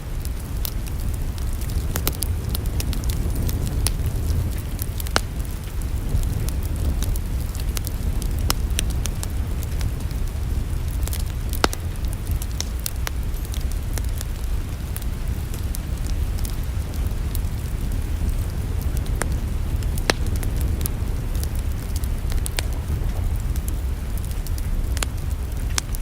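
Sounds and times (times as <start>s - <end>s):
wood fire crackling: 0.0s - 26.0s
sharp pops of fire: 0.1s - 26.0s.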